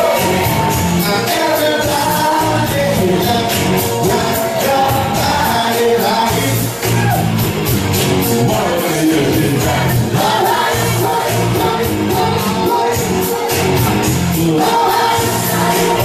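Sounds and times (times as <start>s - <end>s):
person singing into a microphone: 0.0s - 7.0s, 8.2s - 16.0s
loud music with steady beat: 0.0s - 16.0s.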